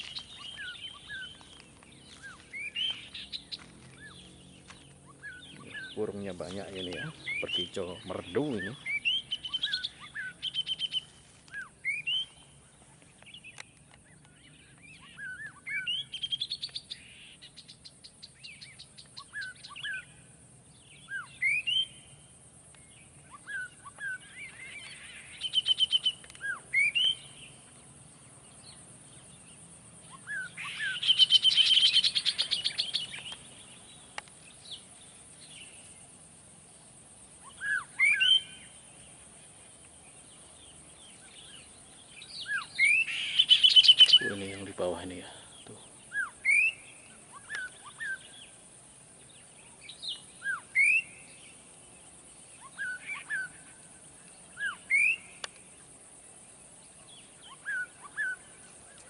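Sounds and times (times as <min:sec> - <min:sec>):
bird trilling song: 0:00.0 - 0:36.1, 0:37.3 - 0:55.9, 0:56.8 - 0:59.0
songbirds singing: 0:00.0 - 0:59.0.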